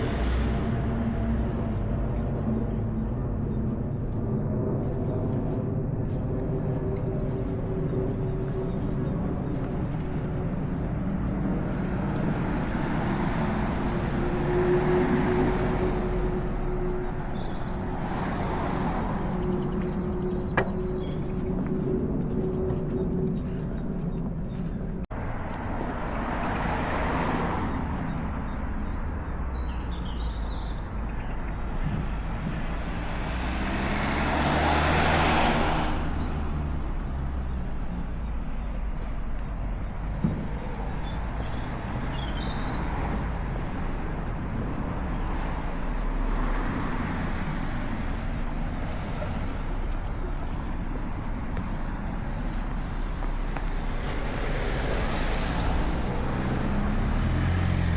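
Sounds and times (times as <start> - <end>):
low traffic rumble: 0.0 - 57.9
vehicles passing by: 0.0 - 57.9.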